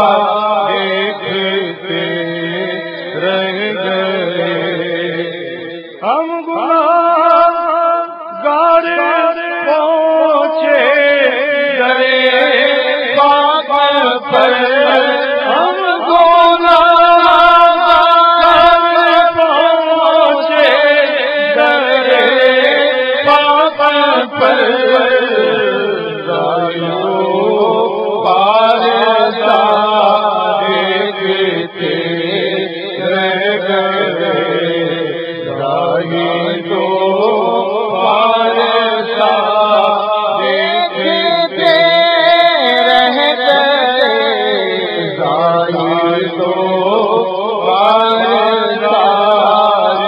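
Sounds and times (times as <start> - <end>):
man chanting solo: 0.0 - 50.0.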